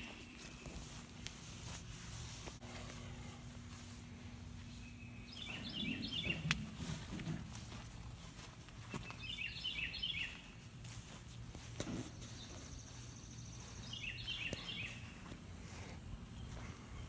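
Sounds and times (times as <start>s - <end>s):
songbird singing: 0.0s - 2.2s, 3.6s - 17.0s
faint outdoor background noise: 0.0s - 17.0s.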